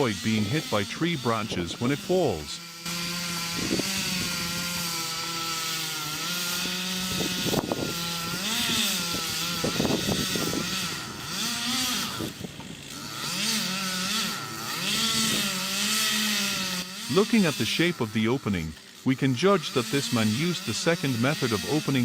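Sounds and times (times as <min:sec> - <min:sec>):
chainsaw cutting tree trunk: 0:00.0 - 0:22.0.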